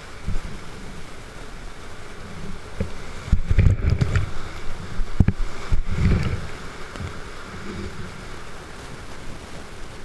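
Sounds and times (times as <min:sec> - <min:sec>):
water splashing on boat: 0:00.0 - 0:10.0
whitewater rushing: 0:00.0 - 0:10.0.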